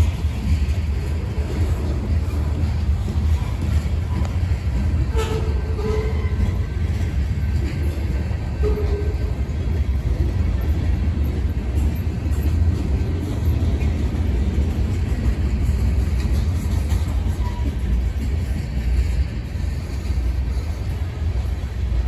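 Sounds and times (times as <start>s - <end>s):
freight train cars rolling: 0.0s - 22.0s.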